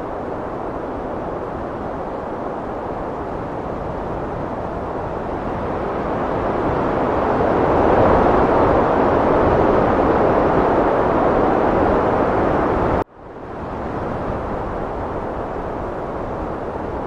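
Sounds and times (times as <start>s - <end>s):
heavy wind rushing: 0.0s - 17.0s.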